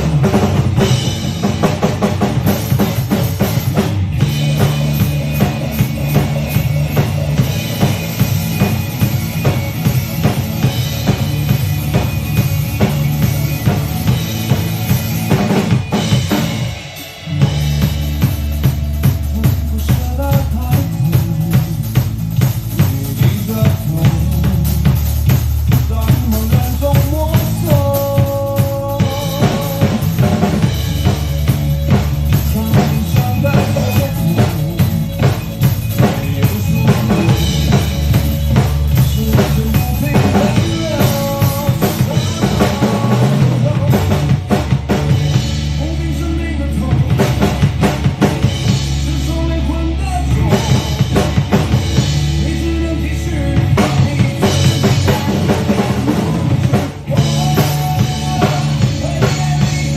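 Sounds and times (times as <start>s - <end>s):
backing music with bass line: 0.0s - 59.9s
drum kit groove: 0.0s - 59.9s.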